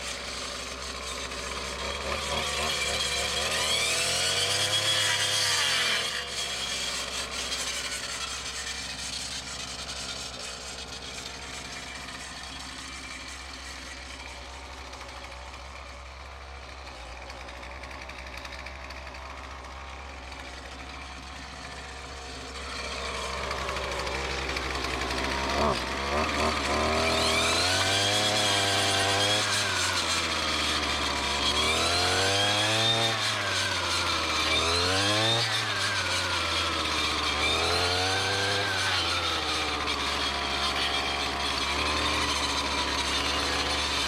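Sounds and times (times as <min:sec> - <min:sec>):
string trimmer engine cutting: 0:00.0 - 0:44.0.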